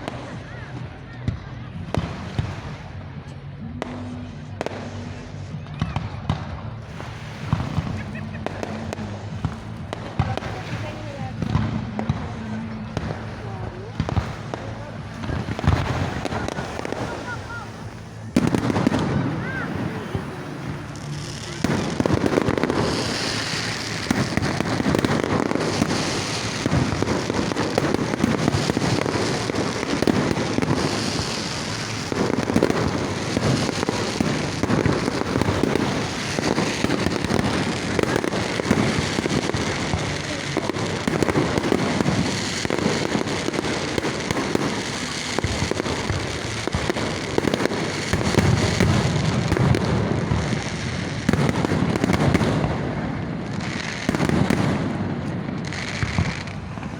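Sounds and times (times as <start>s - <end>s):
deep fireworks booms: 0.0s - 56.9s
fireworks bursting and crackling: 0.0s - 56.9s.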